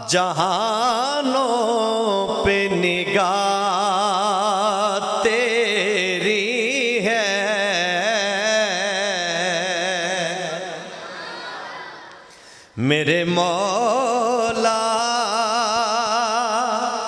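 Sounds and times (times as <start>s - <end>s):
man singing with vibrato: 0.0s - 11.0s, 12.4s - 17.0s.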